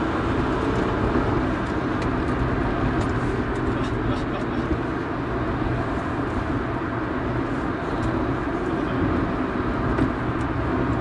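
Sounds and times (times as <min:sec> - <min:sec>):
car engine drone inside cabin: 0:00.0 - 0:11.0
tyre and road noise: 0:00.0 - 0:11.0.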